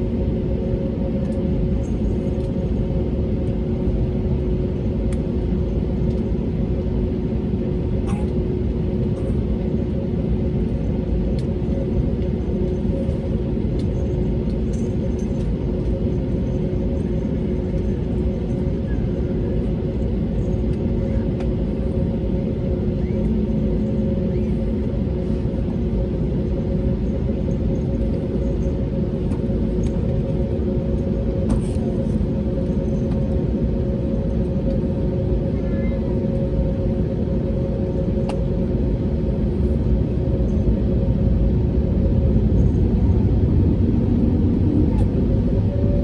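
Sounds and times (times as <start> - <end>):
jet engines rumbling in cabin: 0.0 - 46.0.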